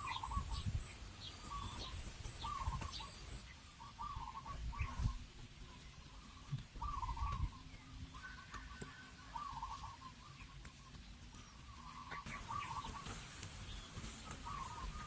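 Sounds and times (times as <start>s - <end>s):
bird calls: 0.0s - 15.0s.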